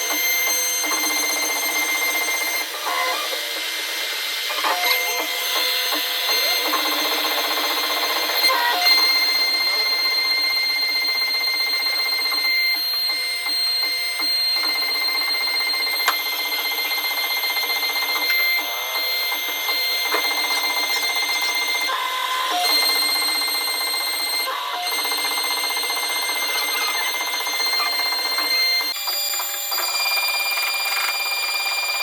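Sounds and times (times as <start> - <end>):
router spindle whine: 0.0 - 32.0.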